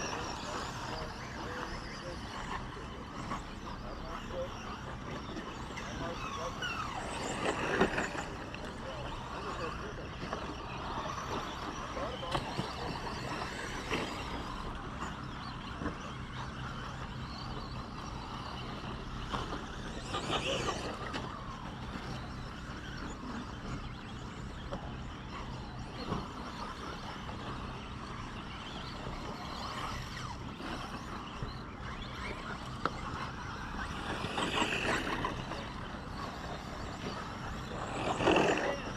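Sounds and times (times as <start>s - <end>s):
rc trucks racing: 0.0s - 38.9s.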